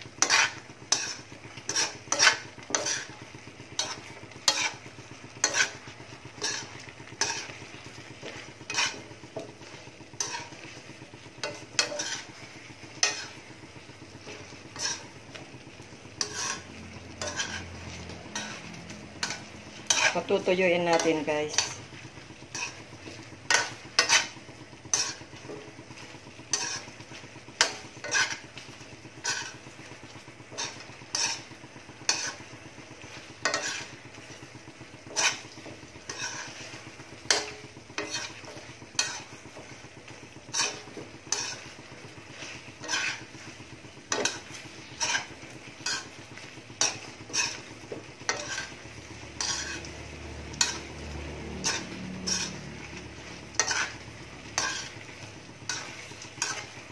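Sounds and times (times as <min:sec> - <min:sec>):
metal spoon scraping a wok: 0:00.0 - 0:56.9
sauce sizzling: 0:00.0 - 0:56.9.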